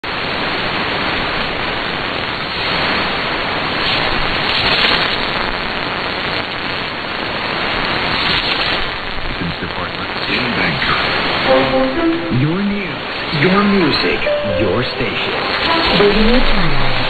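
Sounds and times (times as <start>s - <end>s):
shortwave radio static hiss: 0.0s - 17.0s.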